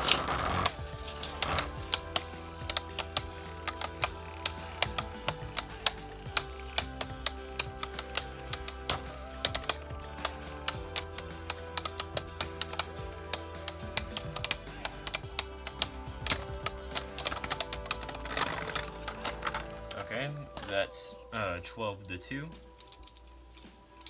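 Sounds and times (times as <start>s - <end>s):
spinning tops clacking: 0.0s - 20.1s
background music with held notes: 0.0s - 24.0s.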